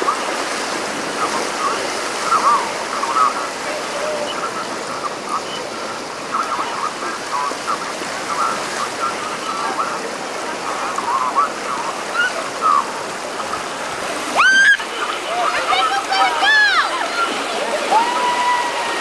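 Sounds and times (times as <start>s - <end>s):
distant voices: 0.0s - 19.0s
water rushing down slide flume: 0.0s - 19.0s.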